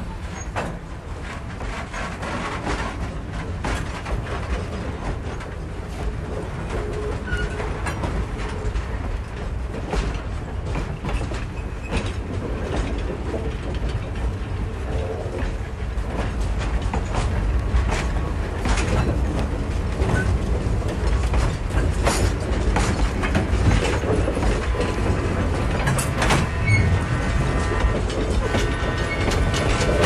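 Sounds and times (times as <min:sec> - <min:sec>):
train rumbling on track: 0:00.0 - 0:30.0
wheels clanking and clicking: 0:00.3 - 0:30.0.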